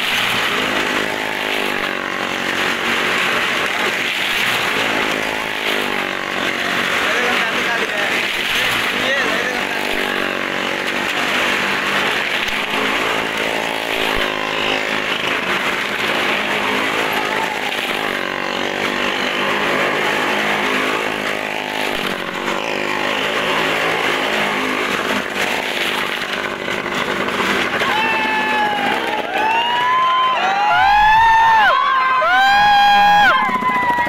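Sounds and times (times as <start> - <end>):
motorcycle engine at high revs: 0.0 - 34.0.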